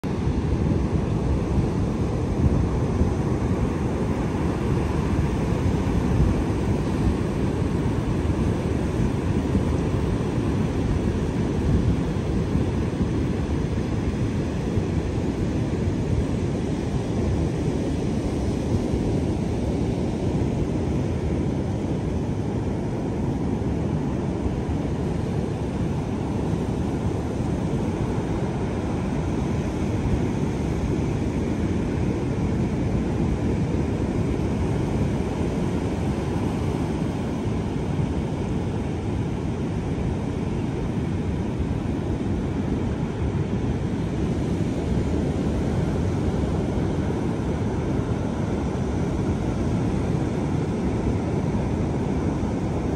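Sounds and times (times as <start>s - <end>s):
wind on microphone: 0.0s - 52.9s.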